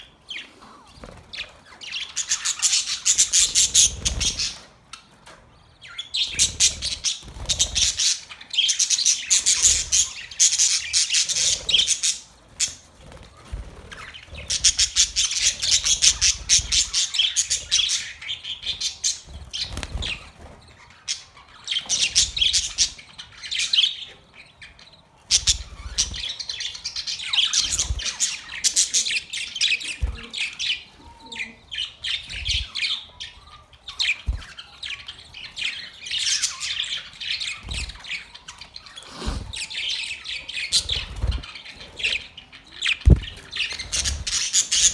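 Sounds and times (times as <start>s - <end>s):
parrots chirping and squawking: 0.0s - 5.1s, 5.8s - 44.9s.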